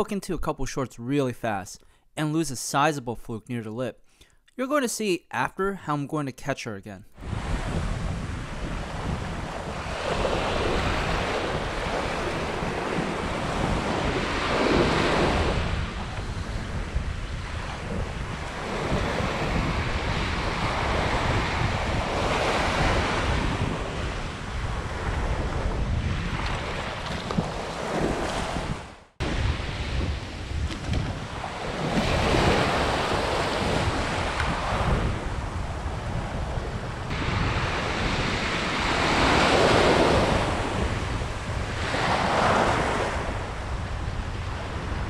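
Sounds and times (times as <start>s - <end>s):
wind rumbling on microphone: 7.2s - 45.0s.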